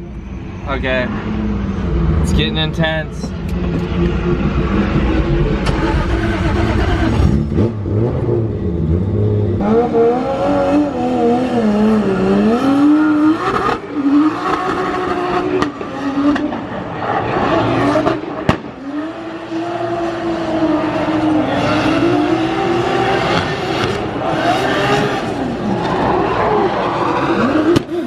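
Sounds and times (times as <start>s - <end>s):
tire noise: 0.0s - 28.0s
car engine revving: 0.3s - 28.0s.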